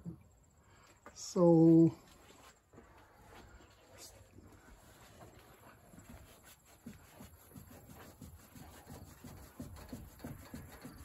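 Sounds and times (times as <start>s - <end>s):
faint knocks and rustles: 2.0s - 11.0s.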